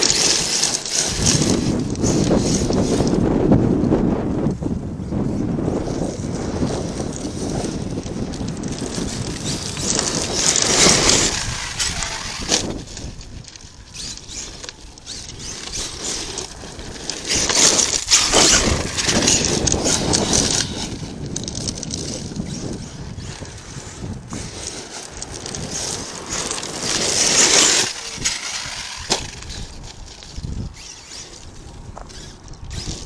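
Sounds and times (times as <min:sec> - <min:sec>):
rc truck driving over dirt and rocks: 0:00.0 - 0:33.0.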